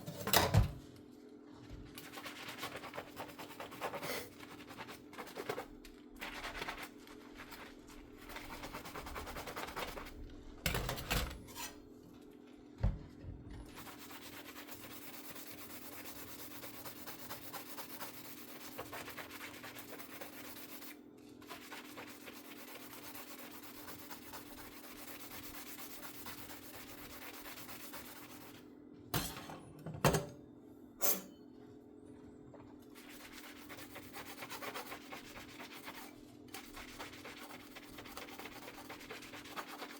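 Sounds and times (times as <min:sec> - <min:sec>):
sponge scrubbing dishes: 0:01.7 - 0:11.8, 0:13.7 - 0:28.6, 0:32.9 - 0:39.9.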